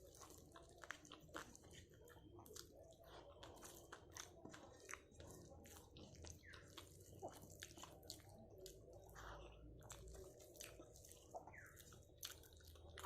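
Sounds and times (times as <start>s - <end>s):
chewing and biting food: 0.0s - 13.0s.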